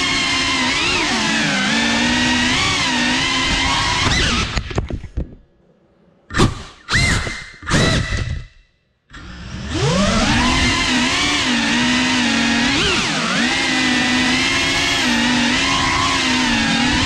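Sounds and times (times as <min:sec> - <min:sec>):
drone motors whining: 0:00.0 - 0:04.8, 0:06.8 - 0:17.0.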